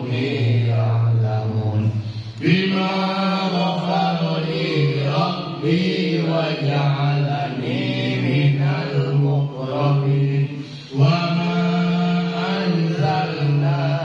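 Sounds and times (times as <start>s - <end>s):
man chanting a prayer: 0.0s - 14.0s.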